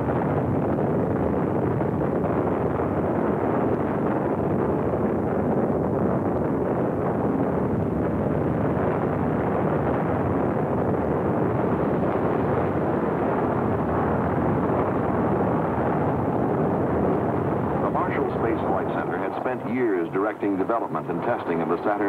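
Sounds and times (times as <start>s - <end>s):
rocket engines roaring at liftoff: 0.0s - 22.0s.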